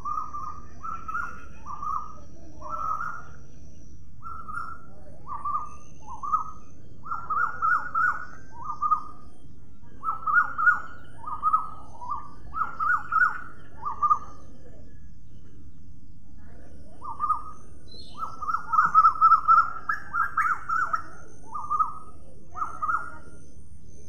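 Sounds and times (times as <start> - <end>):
bird calling: 0.0 - 15.6, 16.7 - 23.4.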